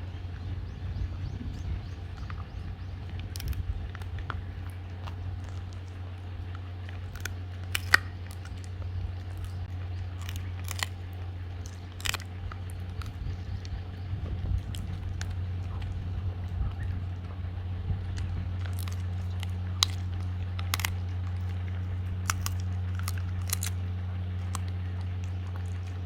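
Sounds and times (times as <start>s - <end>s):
steady low hum: 0.0s - 26.0s
dog chewing crunchy treat: 1.8s - 26.0s.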